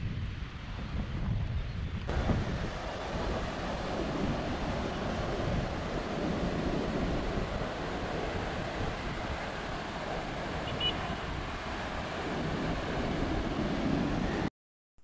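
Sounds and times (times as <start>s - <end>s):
wind blowing across microphone: 0.0s - 14.5s
surf breaking on shore: 2.1s - 14.5s.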